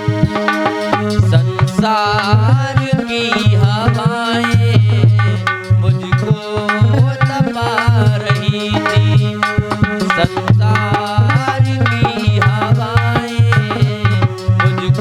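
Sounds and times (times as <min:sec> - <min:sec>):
tabla beat: 0:00.0 - 0:15.0.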